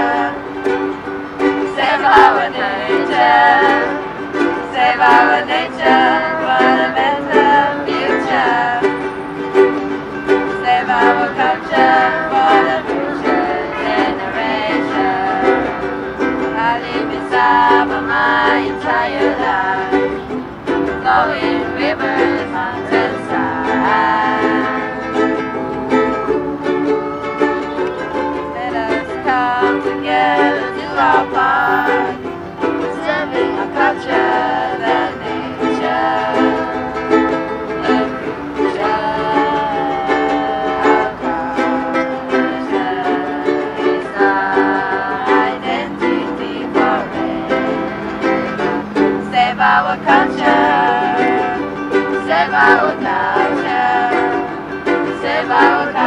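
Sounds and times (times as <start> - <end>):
group of voices singing: 0.0 - 56.0
ukuleles strumming: 0.0 - 56.0.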